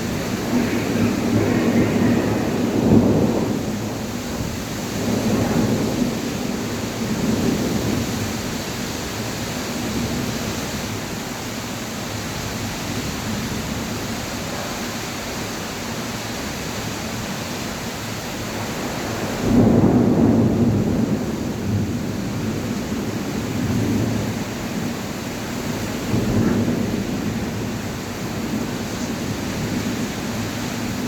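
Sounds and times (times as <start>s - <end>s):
heavy rain hissing: 0.0s - 31.0s.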